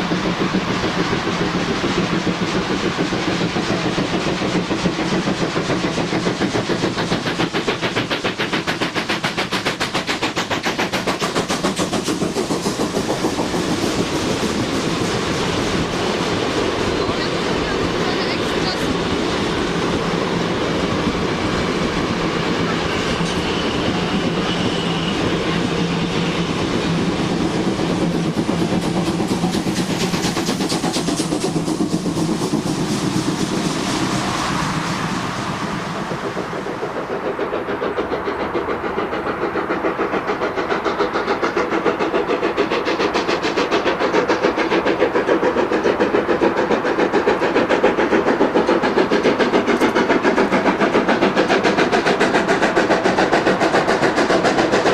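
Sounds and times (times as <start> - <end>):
train clattering on track: 0.0 - 54.9.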